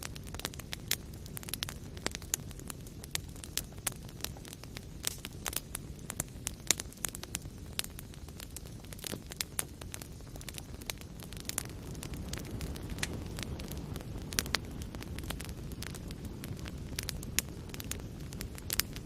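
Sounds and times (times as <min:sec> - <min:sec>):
low rumble of burning: 0:00.0 - 0:19.0
wood fire crackling and popping: 0:00.0 - 0:19.0.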